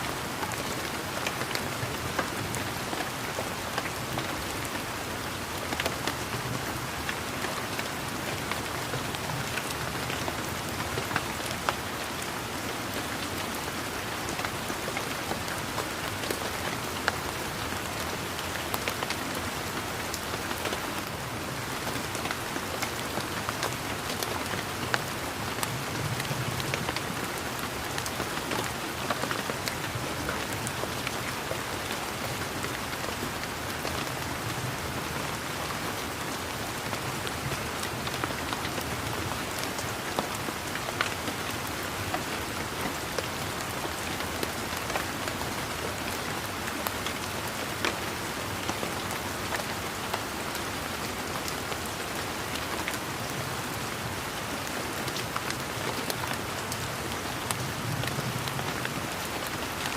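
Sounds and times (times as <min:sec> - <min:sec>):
rain pattering on foliage: 0:00.0 - 0:59.9.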